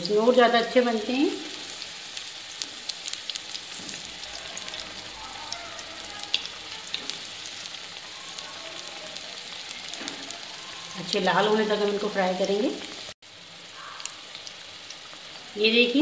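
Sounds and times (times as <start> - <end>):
food deep-frying in hot oil: 0.0 - 16.0
oil popping and crackling: 0.0 - 16.0.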